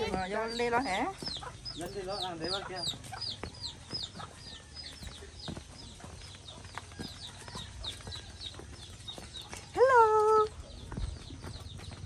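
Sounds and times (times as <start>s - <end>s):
bird peeping: 0.0s - 12.0s.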